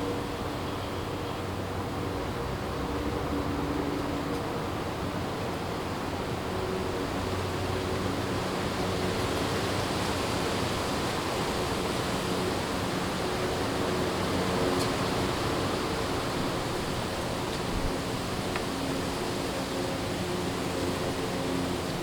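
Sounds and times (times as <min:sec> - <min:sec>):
wind rushing through trees: 0:00.0 - 0:22.0.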